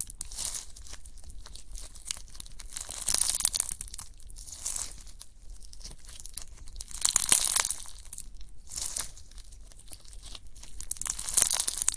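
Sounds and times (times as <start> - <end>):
slime crackling when stretched: 0.0 - 11.9.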